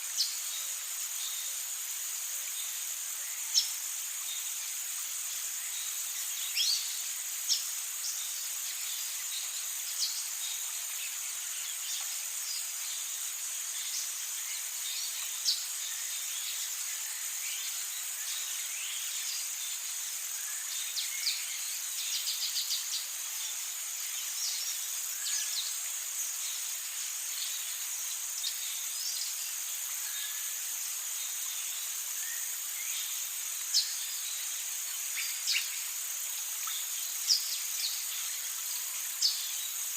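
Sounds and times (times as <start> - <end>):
high-pitched insect drone: 0.0 - 39.9.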